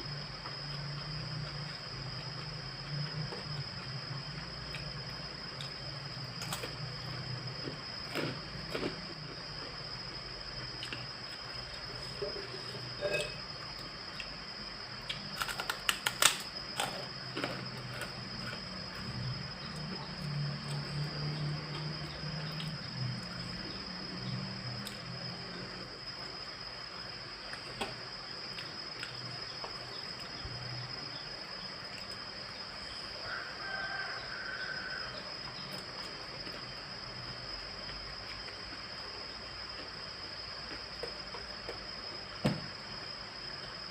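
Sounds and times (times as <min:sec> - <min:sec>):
faint high whine: 0:00.0 - 0:43.9.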